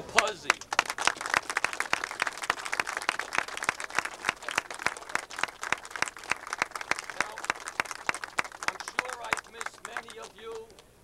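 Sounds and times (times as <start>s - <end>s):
small crowd applauding: 0.1s - 10.8s.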